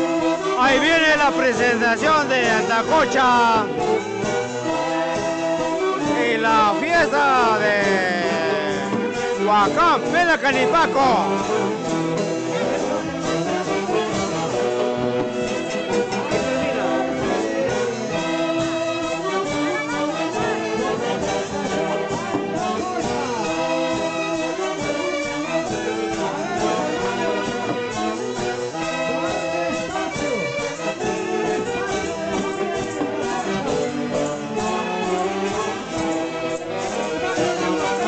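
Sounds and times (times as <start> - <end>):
band playing dance tune: 0.0 - 38.0
wind instruments melody: 0.0 - 38.0.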